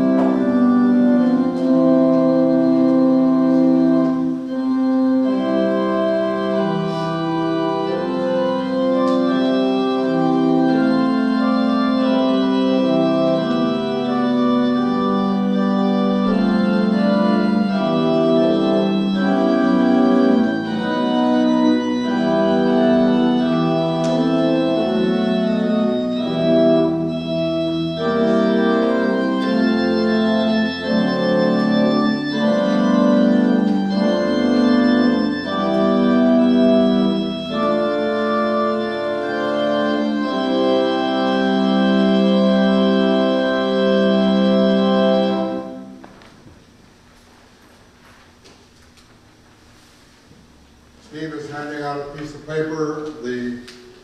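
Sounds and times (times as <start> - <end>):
church organ chords: 0.0 - 49.8, 50.4 - 54.0.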